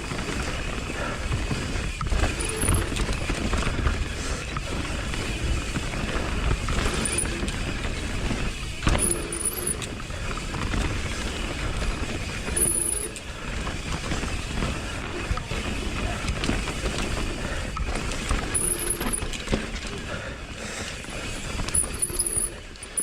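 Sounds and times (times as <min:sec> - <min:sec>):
bike knocking and rattling: 0:00.0 - 0:23.0
bike tyre and trail noise: 0:00.0 - 0:23.0.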